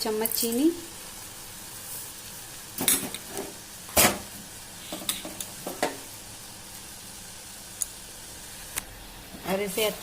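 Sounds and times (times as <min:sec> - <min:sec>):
low hiss of boiling: 0:00.0 - 0:10.0.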